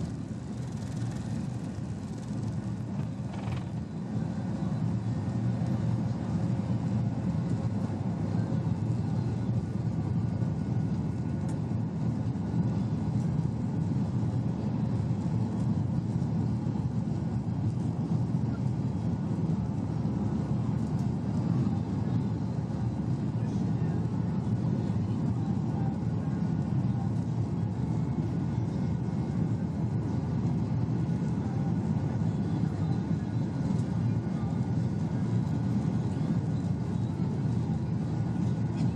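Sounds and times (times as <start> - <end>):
aircraft cabin engine drone: 0.0 - 38.9
faint steady whine: 0.0 - 38.9.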